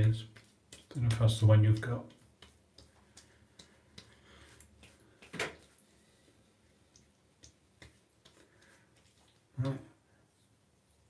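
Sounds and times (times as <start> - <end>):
fingers rubbing skin: 0.0 - 5.8, 6.8 - 11.0.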